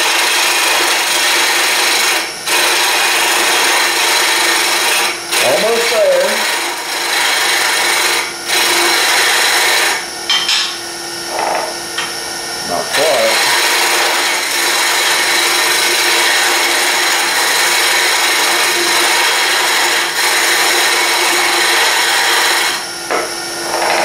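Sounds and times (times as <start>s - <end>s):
gouge scraping spinning wood: 0.0s - 10.1s, 11.3s - 12.1s, 12.7s - 24.0s
lathe humming: 0.0s - 24.0s.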